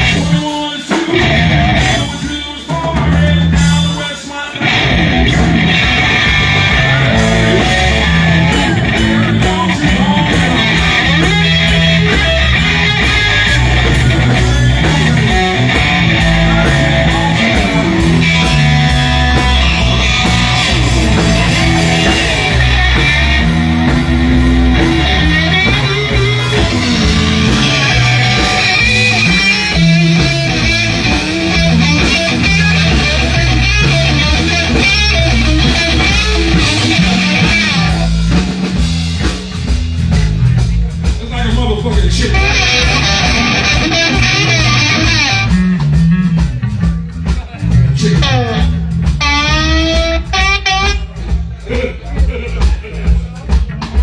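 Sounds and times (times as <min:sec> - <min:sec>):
bass line: 0:00.0 - 0:54.0
electric guitar: 0:00.0 - 0:54.0
live band music: 0:00.0 - 0:54.0.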